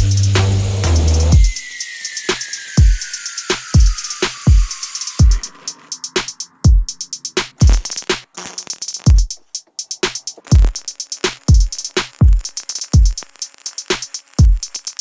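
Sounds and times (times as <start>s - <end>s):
electronic music with drum-machine beat: 0.0s - 15.0s.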